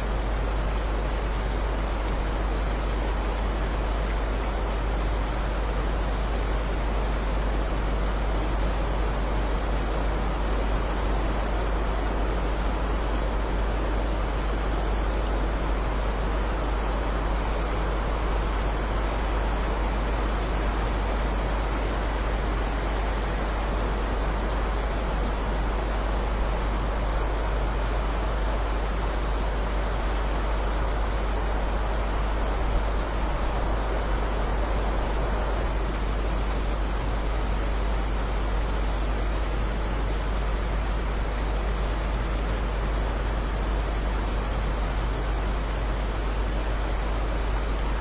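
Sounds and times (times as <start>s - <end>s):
heavy rain: 0.0s - 48.0s.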